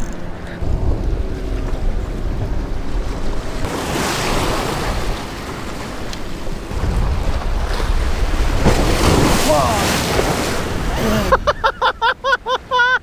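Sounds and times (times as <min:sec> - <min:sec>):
wind rumble on microphone: 0:00.0 - 0:12.1
ocean waves washing over rocks: 0:00.2 - 0:12.8.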